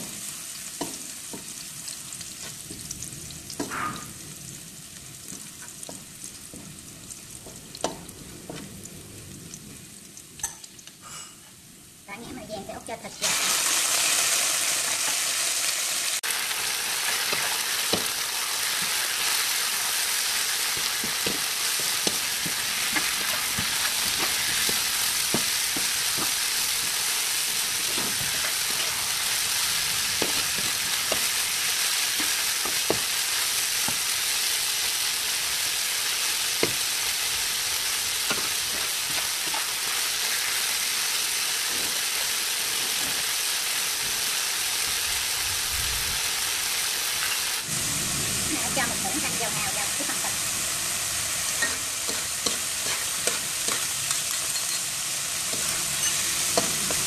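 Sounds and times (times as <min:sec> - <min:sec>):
vegetables sizzling in hot oil: 0:00.0 - 0:57.0.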